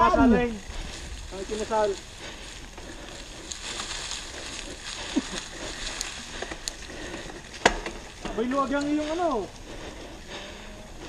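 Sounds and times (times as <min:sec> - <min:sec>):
bike tyres rolling on dirt trail: 0:00.0 - 0:11.0
bike clicks and rattles: 0:00.7 - 0:11.0.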